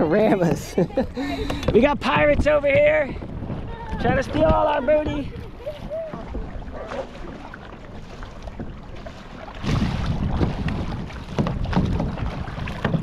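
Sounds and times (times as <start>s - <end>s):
paddles splashing in water: 0.0s - 13.0s
wind on microphone: 0.0s - 13.0s.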